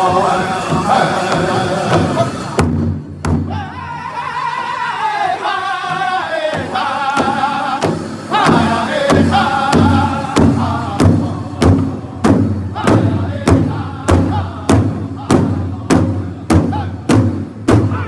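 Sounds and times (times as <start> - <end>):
group singing in high unison: 0.0 - 2.6, 3.5 - 17.2
large hide drum beating: 0.0 - 4.0, 5.8 - 18.0.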